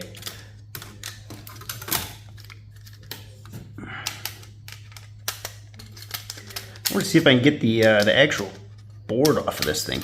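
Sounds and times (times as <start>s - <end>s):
metal parts clicking and scraping: 0.0s - 3.2s, 4.0s - 10.0s
steady low hum: 0.0s - 10.0s.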